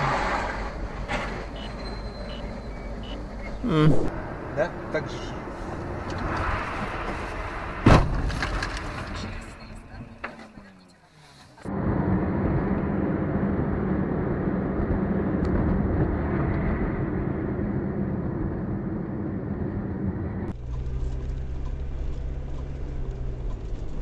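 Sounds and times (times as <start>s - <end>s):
car engine and road noise: 0.0s - 24.0s
low car engine hum: 0.0s - 24.0s.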